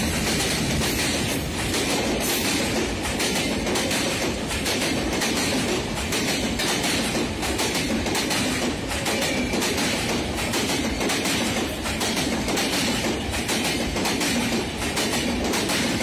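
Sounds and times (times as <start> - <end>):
train coaches rumbling past: 0.0 - 16.0.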